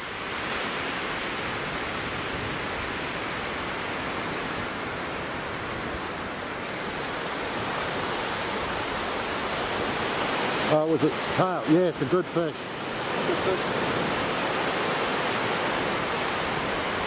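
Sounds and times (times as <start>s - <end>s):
small waves breaking on beach: 0.0s - 17.0s.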